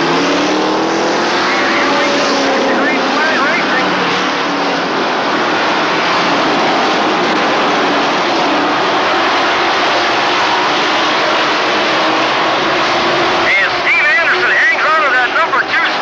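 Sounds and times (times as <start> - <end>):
race truck engines droning: 0.0 - 16.0.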